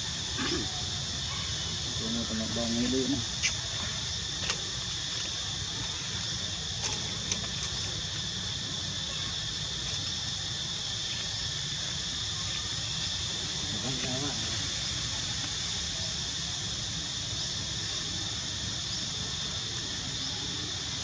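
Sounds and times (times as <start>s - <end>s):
insect chorus buzzing: 0.0s - 21.0s.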